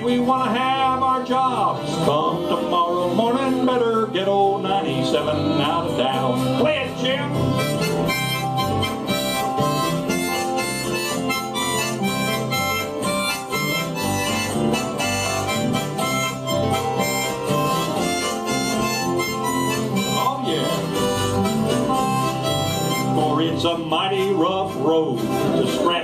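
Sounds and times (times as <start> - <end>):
harmonica solo: 0.0 - 26.0
strummed acoustic guitars: 0.0 - 26.0.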